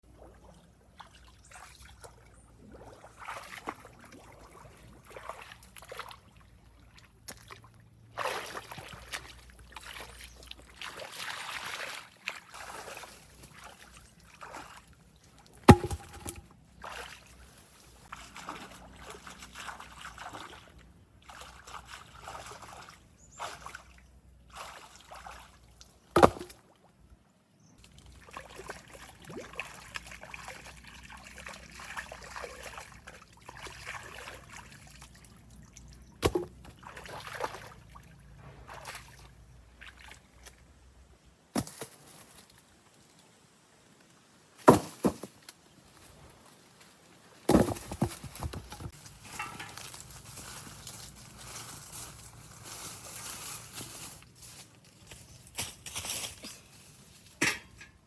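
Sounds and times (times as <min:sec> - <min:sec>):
water sloshing and trickling: 0:00.0 - 0:43.3, 0:45.6 - 0:58.0.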